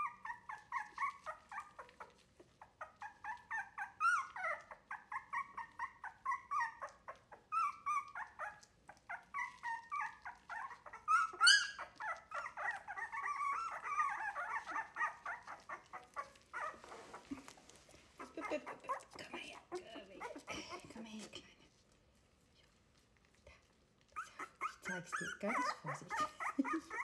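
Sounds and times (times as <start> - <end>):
puppies whimpering and squealing: 0.0 - 21.0, 24.0 - 27.0.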